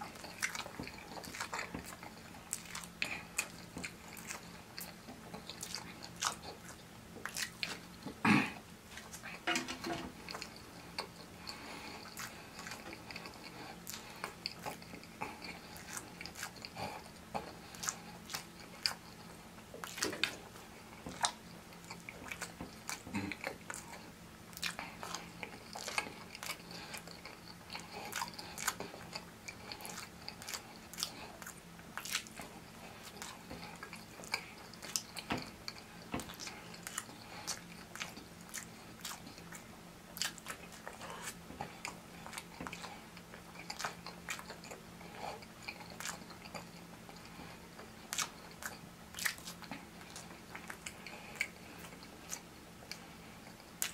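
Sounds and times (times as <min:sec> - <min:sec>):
close chewing and biting: 0:00.0 - 0:08.2, 0:08.9 - 0:53.9
faint low hum: 0:00.0 - 0:53.9.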